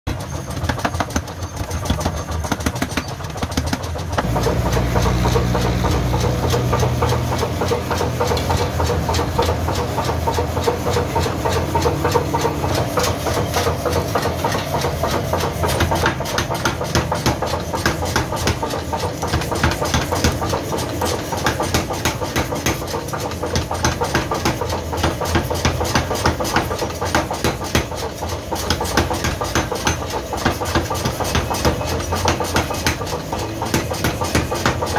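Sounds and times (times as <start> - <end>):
power hammer clattering: 0.1 - 34.9.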